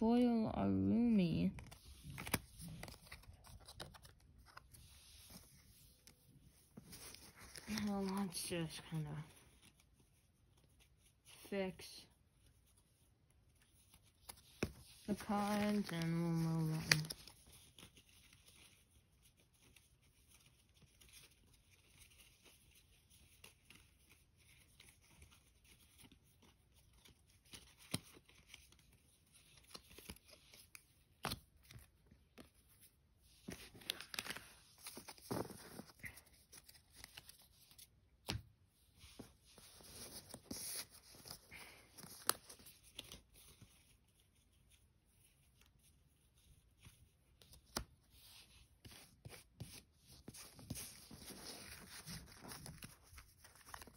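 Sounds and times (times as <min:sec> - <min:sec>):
cards rustling: 0:01.4 - 0:11.3, 0:13.5 - 0:45.6, 0:46.3 - 0:53.9.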